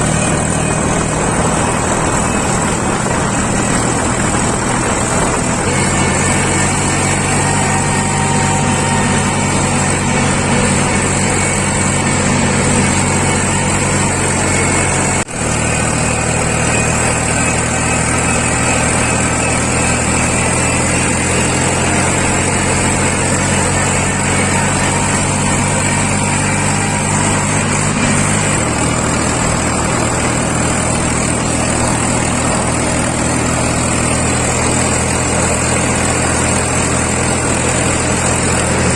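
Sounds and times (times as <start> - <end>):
diesel machinery engine running: 0.0 - 38.9.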